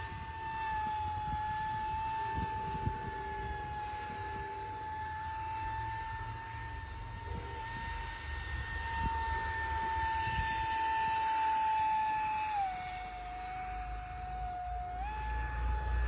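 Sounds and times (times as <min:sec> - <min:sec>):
electric ducted fan whining: 0:00.0 - 0:16.0.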